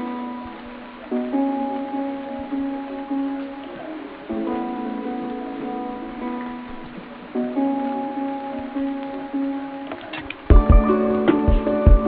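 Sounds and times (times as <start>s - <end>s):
plucked guitar chords: 0.0s - 12.0s.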